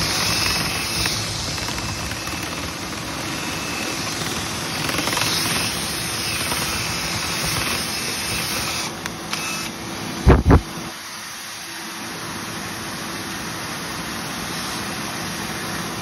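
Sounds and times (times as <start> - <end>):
vent cleaning machine rushing hum: 0.0 - 16.0.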